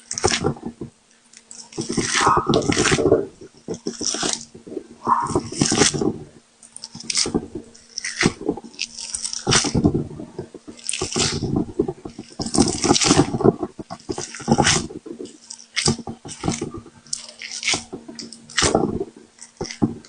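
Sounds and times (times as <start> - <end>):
jelly popping and squishing: 0.0 - 20.0.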